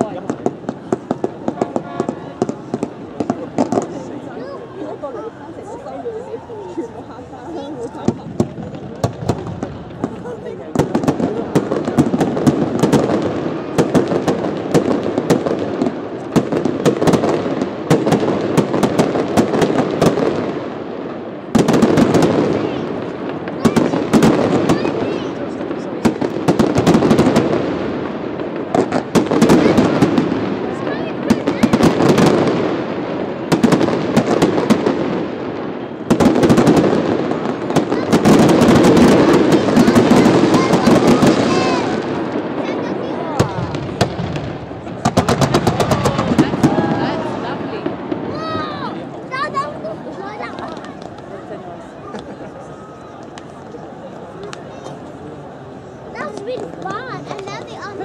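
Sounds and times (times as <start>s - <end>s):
fireworks bursting with sharp bangs: 0.0s - 58.0s.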